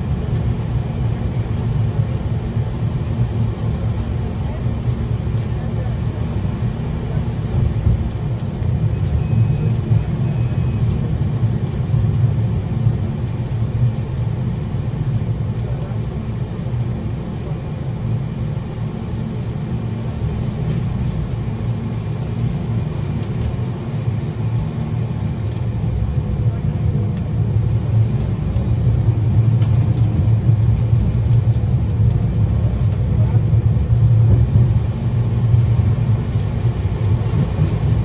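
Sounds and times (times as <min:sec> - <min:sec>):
tram wheels rumbling on rails: 0:00.0 - 0:38.0.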